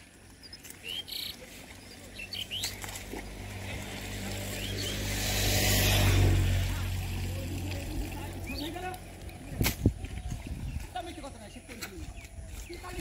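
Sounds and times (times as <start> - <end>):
small birds chirping: 0.0 - 5.3, 7.8 - 13.0.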